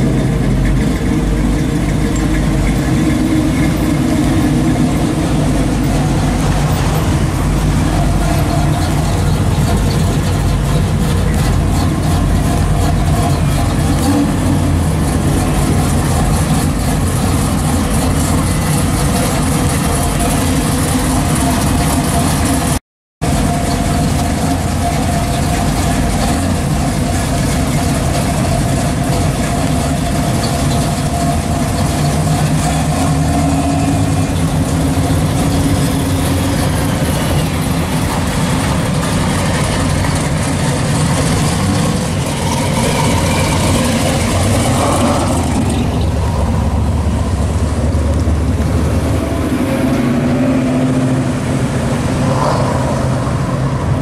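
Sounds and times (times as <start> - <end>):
car engines idling: 0.0 - 54.0.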